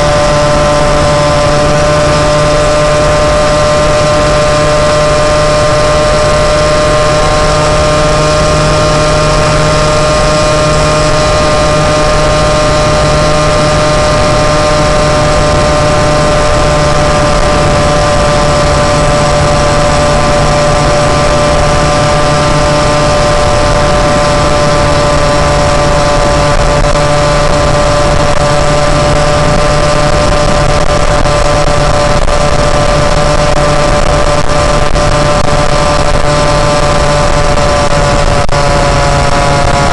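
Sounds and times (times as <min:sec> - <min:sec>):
moped engine running: 0:00.0 - 0:39.9
rushing wind noise: 0:00.0 - 0:39.9.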